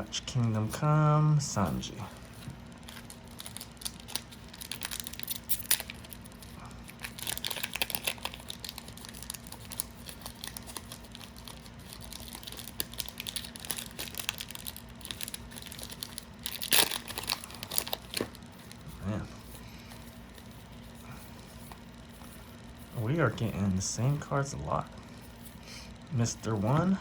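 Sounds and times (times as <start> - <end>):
trading cards being handled: 1.6 - 24.4, 25.0 - 27.0
foil wrapper crinkling: 1.7 - 24.2.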